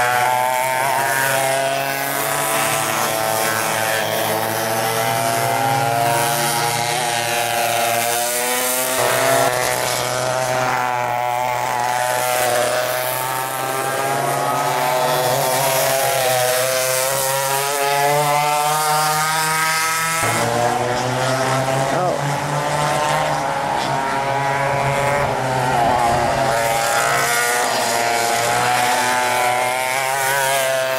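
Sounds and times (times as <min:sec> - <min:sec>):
racing go-kart engines: 0:00.0 - 0:30.9.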